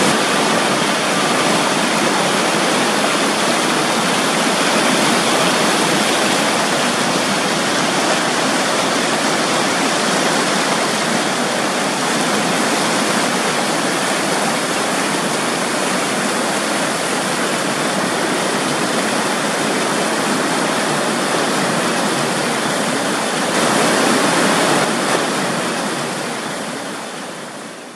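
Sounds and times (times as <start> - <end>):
river rapids roaring: 0.0 - 27.9.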